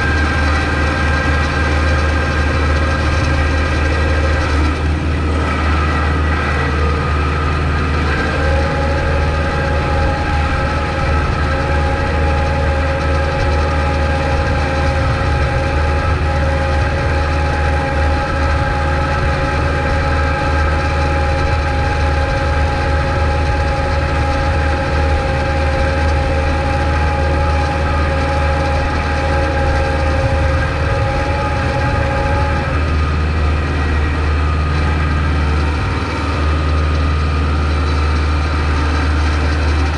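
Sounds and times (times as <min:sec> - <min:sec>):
steady mechanical whine: 0:00.0 - 0:39.9
tractor diesel engine running: 0:00.0 - 0:39.9.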